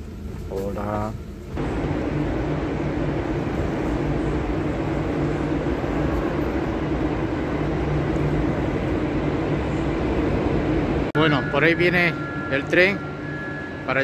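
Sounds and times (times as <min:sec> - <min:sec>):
train rumbling with low hum: 0:00.0 - 0:14.0.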